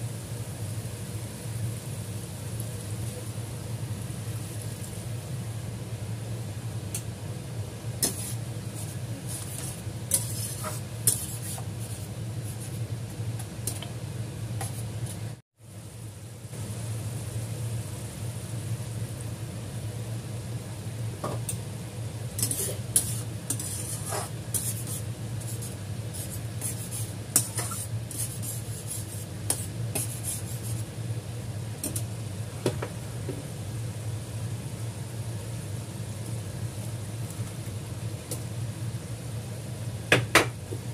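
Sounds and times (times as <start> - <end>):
sauce sizzling in a pan: 0.0 - 40.9.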